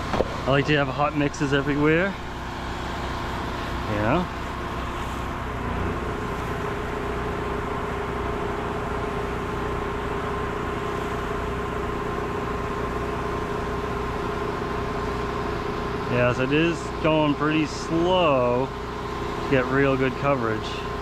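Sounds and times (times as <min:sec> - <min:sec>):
spray pump engine droning: 0:00.0 - 0:21.0.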